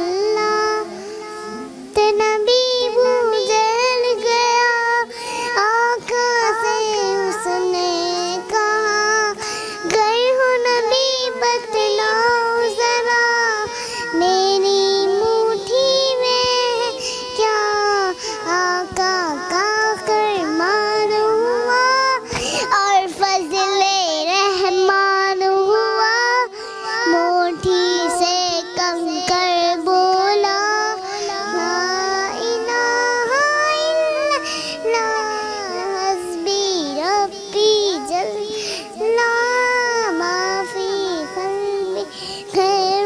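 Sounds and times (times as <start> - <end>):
girl singing: 0.0 - 43.0.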